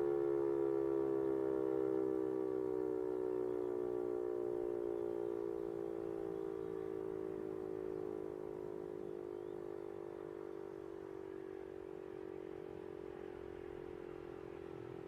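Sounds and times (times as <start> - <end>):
motor siren howling: 0.0 - 15.0.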